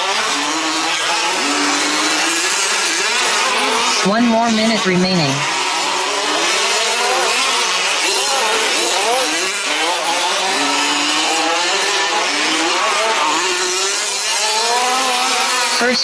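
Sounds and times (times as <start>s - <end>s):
small two-stroke engines revving: 0.0s - 16.0s.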